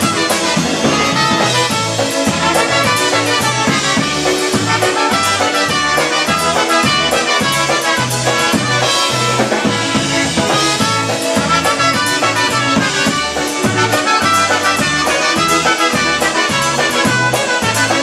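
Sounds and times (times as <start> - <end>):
oom-pah bass line: 0.0 - 18.0
polka band playing: 0.0 - 18.0.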